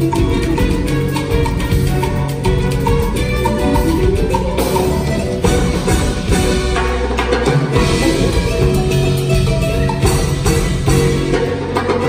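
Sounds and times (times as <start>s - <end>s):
drum kit and percussion beat: 0.0s - 12.0s
live latin band playing: 0.0s - 12.0s.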